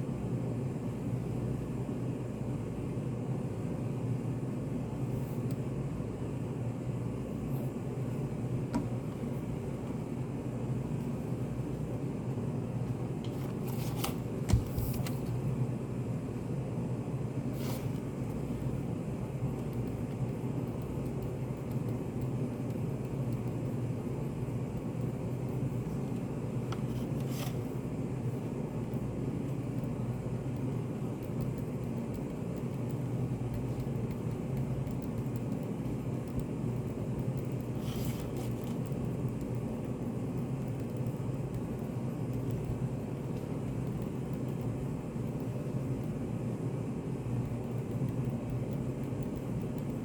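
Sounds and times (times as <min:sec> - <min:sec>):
cafe room noise hum: 0:00.0 - 0:50.0.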